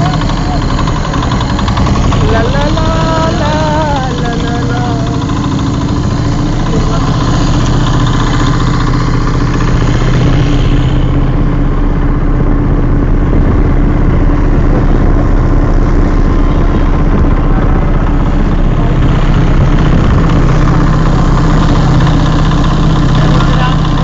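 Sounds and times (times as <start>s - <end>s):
motorboat engine running: 0.0s - 24.0s.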